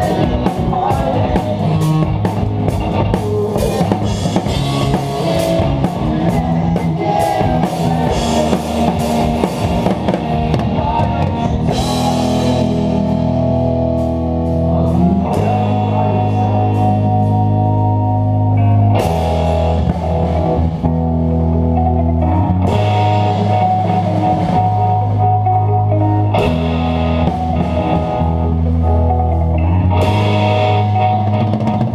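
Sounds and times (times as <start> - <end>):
drum kit: 0.0 - 31.9
held guitar chords: 0.0 - 31.9.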